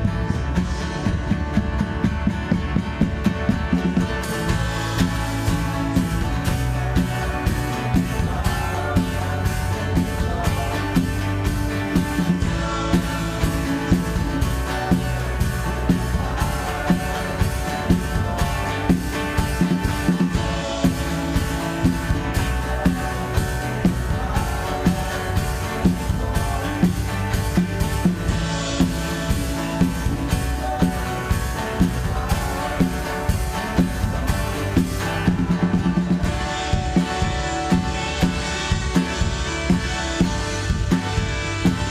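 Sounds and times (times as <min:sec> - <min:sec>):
drum kit beat: 0:00.0 - 0:41.9
worship band music: 0:00.0 - 0:41.9.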